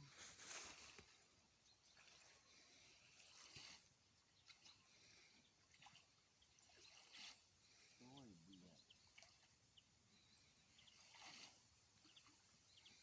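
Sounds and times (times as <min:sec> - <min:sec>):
faint water splashes: 0:00.0 - 0:13.0.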